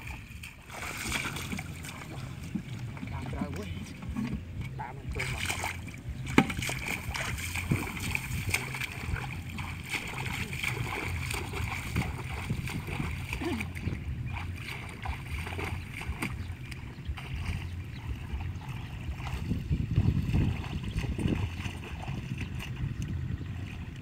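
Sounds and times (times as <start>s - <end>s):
footsteps splashing through water and mud: 0.0s - 24.0s
steady low rumble: 0.0s - 24.0s.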